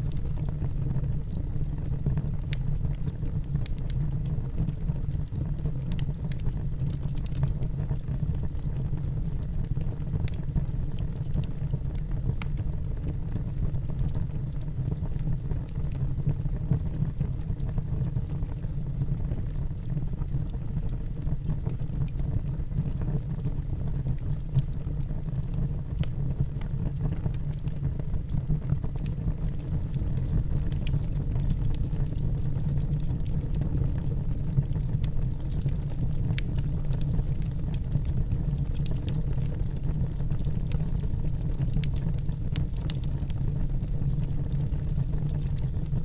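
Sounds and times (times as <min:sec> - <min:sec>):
campfire rumble: 0:00.0 - 0:46.0
fire crackling and popping: 0:00.0 - 0:46.0.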